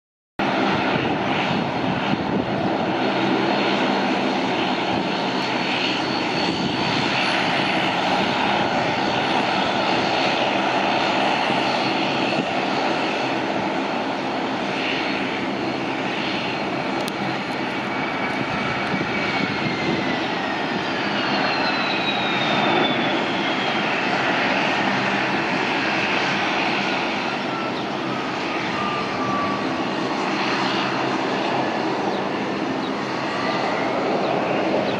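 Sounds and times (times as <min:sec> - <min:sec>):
jet engines roaring: 0:00.4 - 0:34.9.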